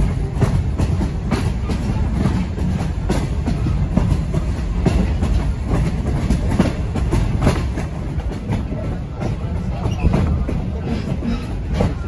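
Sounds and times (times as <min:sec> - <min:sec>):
train coach rumbling: 0:00.0 - 0:12.0
wheels clicking over rail joints: 0:00.0 - 0:12.0.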